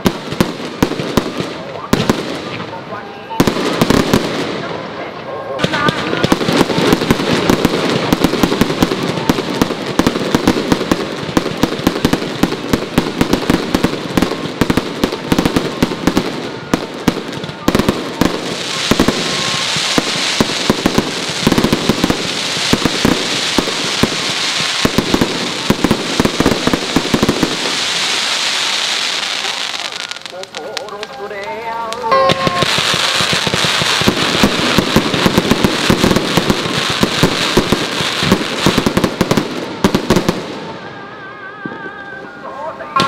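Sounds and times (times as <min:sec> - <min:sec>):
fireworks bangs and pops: 0:00.0 - 0:40.8
crackling hiss: 0:00.0 - 0:42.4.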